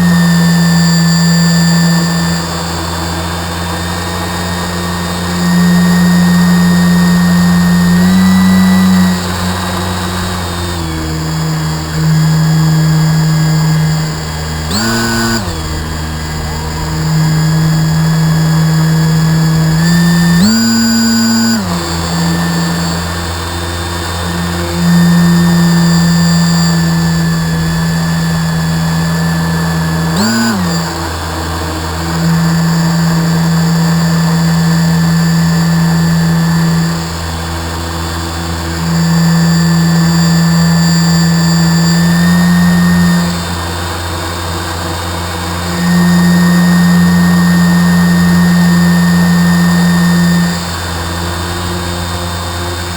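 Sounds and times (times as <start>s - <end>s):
model boat motor running: 0.0s - 52.9s.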